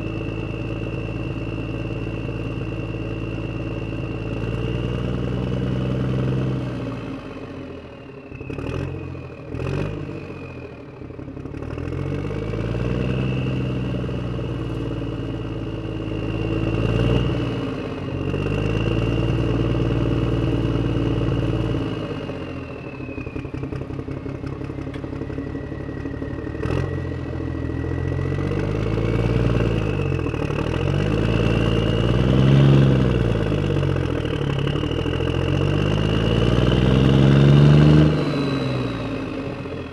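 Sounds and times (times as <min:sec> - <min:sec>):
tractor engine revving: 0:00.0 - 0:07.8, 0:08.4 - 0:39.9.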